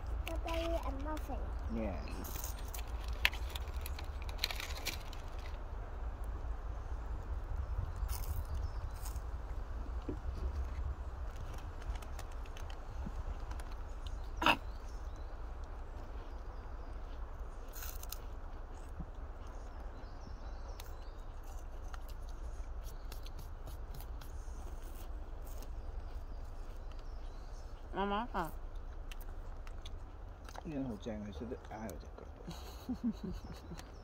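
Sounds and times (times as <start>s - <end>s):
faint clicks and rustles: 0.0s - 6.4s, 7.2s - 30.8s
steady low rumble: 0.0s - 34.0s.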